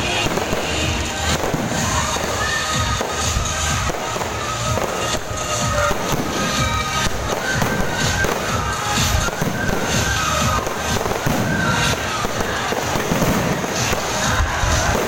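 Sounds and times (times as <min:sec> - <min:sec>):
fireworks bursting: 0:00.0 - 0:15.0
music playing: 0:00.0 - 0:15.0.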